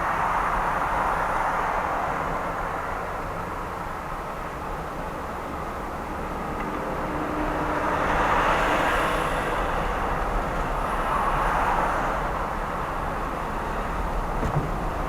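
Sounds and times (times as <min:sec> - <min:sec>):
car driving in traffic: 0:00.0 - 0:15.0.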